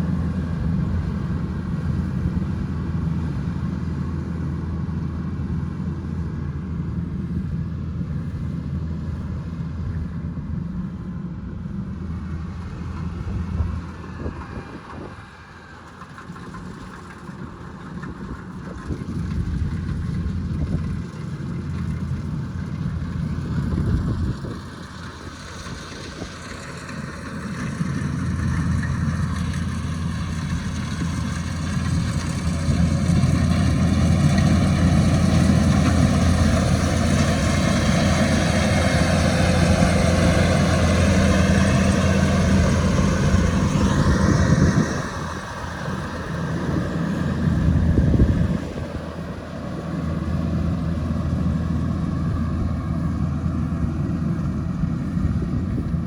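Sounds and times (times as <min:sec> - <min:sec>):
harvester engine running under load: 0:00.0 - 0:56.0.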